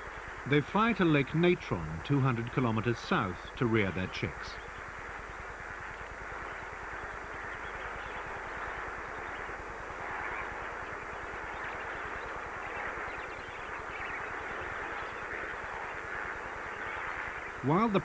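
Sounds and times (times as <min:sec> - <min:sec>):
flock of flamingos calling: 0:00.0 - 0:05.7, 0:06.3 - 0:18.0.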